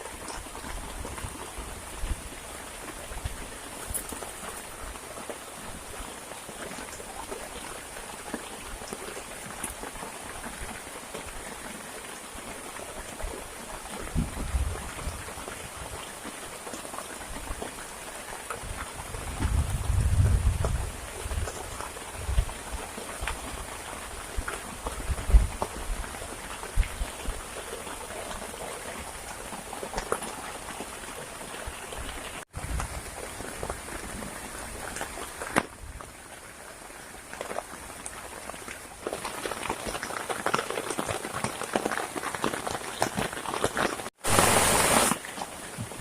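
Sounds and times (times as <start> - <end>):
heavy rain falling: 0.0 - 46.0
raindrops ticking close by: 0.0 - 46.0.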